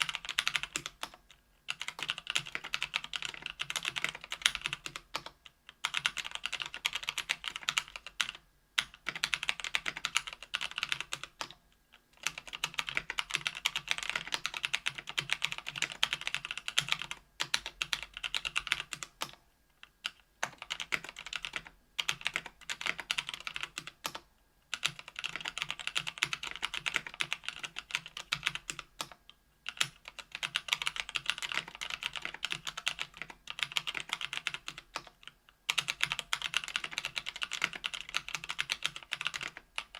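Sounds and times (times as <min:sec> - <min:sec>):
mechanical keyboard typing: 0:00.0 - 0:11.6, 0:12.2 - 0:19.4, 0:20.0 - 0:39.9.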